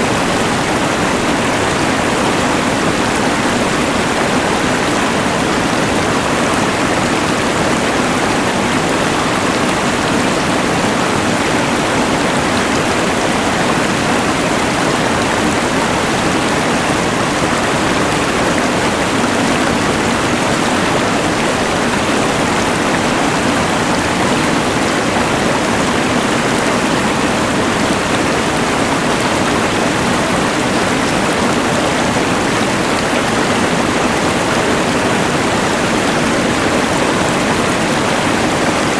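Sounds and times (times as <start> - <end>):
rushing river: 0.0 - 38.9.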